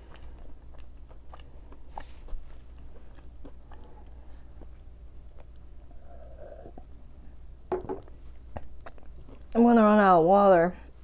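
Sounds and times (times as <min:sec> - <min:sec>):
close chewing of fried food: 0:00.0 - 0:07.5, 0:08.1 - 0:09.6.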